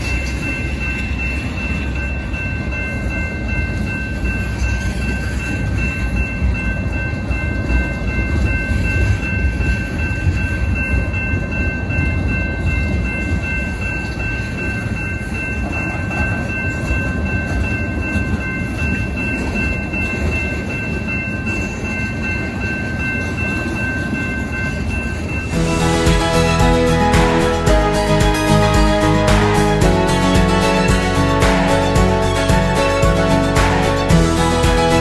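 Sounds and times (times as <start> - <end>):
freight train wheels rumbling: 0.0 - 35.0
high ringing tone: 0.0 - 35.0.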